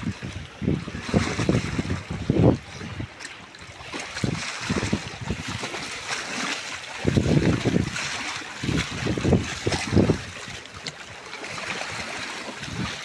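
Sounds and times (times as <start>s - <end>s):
water splashing around swimmer: 0.0s - 13.0s
wind buffeting microphone: 0.0s - 13.0s.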